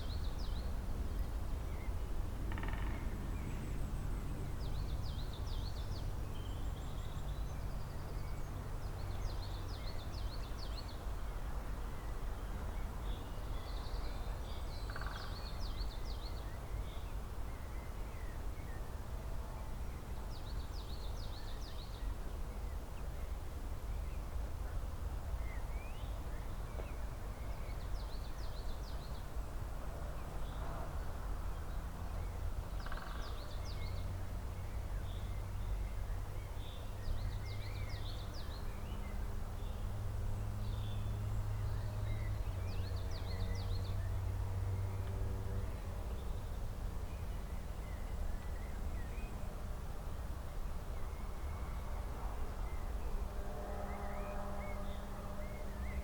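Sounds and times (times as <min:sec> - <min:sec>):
songbirds singing: 0:00.0 - 0:19.0, 0:25.3 - 0:56.0.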